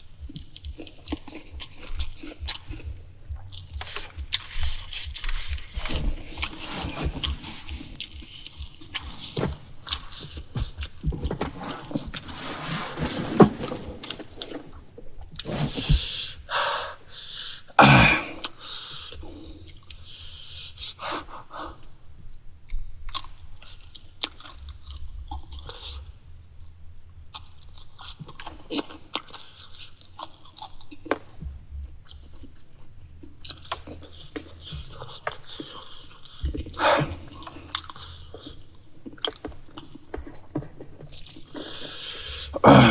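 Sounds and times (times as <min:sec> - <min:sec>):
person chewing food: 0:00.0 - 0:12.4, 0:18.2 - 0:21.0, 0:22.7 - 0:42.9.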